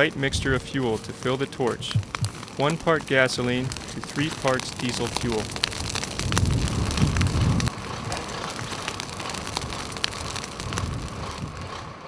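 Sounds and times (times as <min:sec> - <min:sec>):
grass fire crackling: 0:00.0 - 0:12.0.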